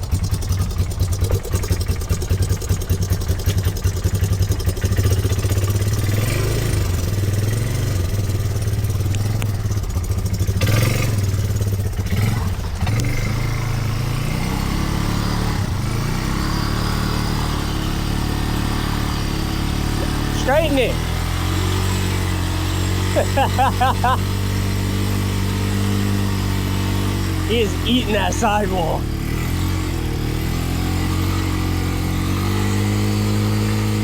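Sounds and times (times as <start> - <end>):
quad bike engine revving: 0.0 - 34.0.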